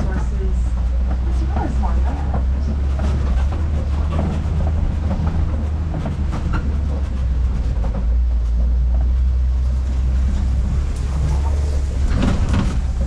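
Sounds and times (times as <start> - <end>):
truck engine and road rumble: 0.0 - 13.0
vehicle body rattling: 0.0 - 13.0.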